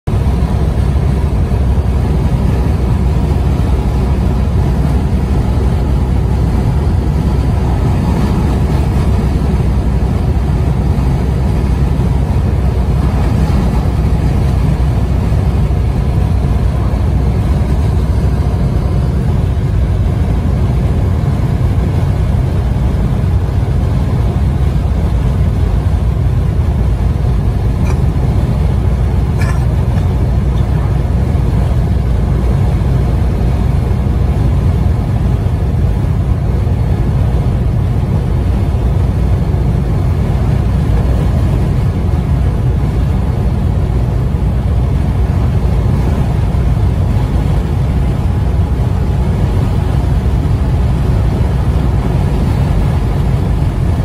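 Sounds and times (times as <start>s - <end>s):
vehicle road rumble: 0.0s - 54.0s.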